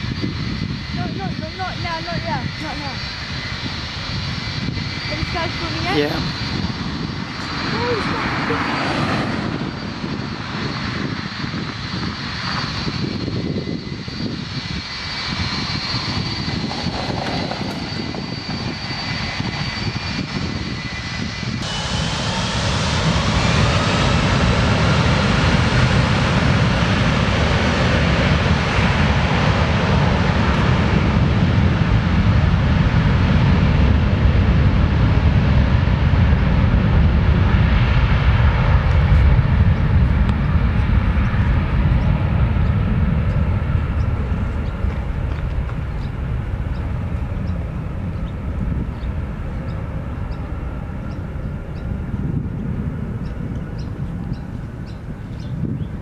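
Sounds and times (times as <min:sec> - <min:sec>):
jet engine takeoff rumble: 0:00.0 - 0:56.0
jet engines whining: 0:00.0 - 0:56.0.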